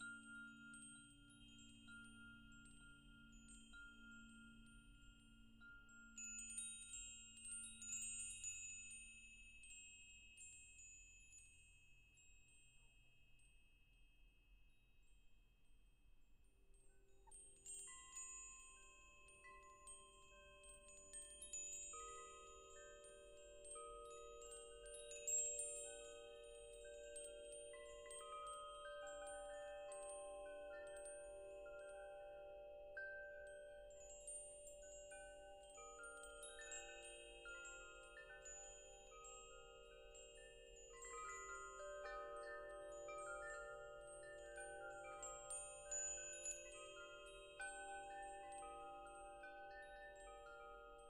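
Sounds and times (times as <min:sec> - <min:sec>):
wind chimes ringing: 0:00.0 - 0:11.3, 0:17.2 - 0:51.0.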